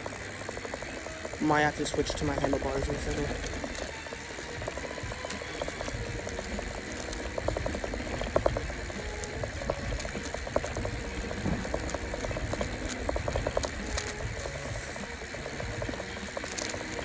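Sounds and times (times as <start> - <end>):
bicycle road rumble: 0.0 - 17.0
small clicks and rattles: 0.0 - 17.0
wind buffeting microphone: 0.0 - 17.0.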